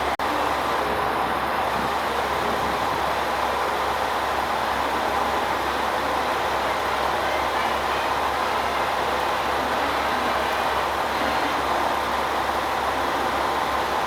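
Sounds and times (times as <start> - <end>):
diesel railcar running: 0.0 - 14.0.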